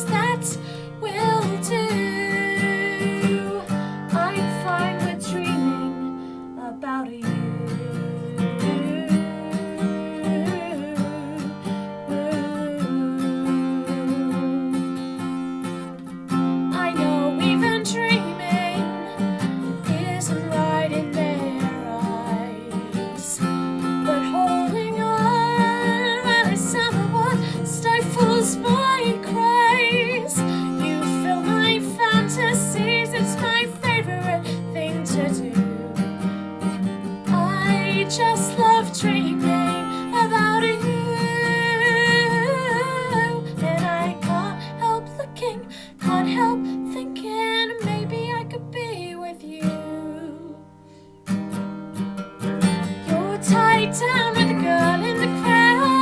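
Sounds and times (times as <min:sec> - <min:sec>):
woman singing: 0:00.0 - 0:50.8, 0:52.6 - 0:56.0
strummed acoustic guitar: 0:00.0 - 0:56.0.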